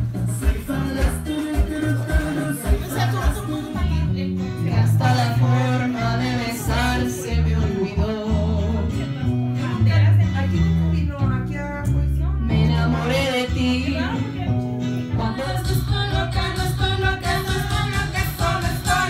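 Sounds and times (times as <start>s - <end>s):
latin music with plucked guitar: 0.0s - 19.0s
stepping bass line: 0.0s - 19.0s.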